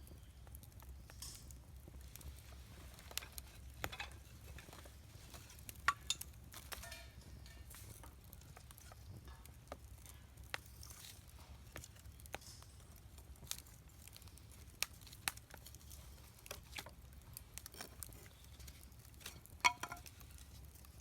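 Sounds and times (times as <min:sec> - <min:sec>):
campfire crackling and popping: 0:00.0 - 0:21.0
soft hiss of fire: 0:00.0 - 0:21.0.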